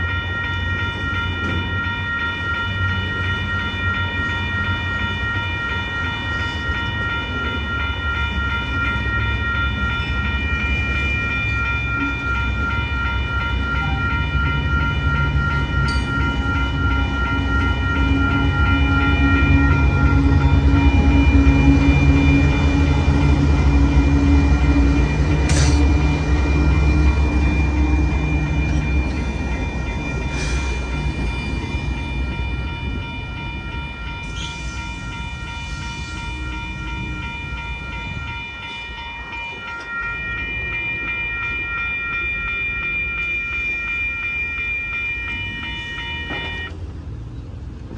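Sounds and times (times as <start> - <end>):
railroad crossing bell ringing: 0.0 - 47.9
train rumbling past: 0.0 - 47.9.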